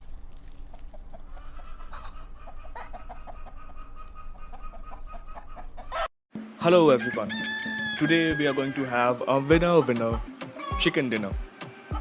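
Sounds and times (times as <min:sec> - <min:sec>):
chickens clucking: 0:00.2 - 0:06.1, 0:08.1 - 0:12.0.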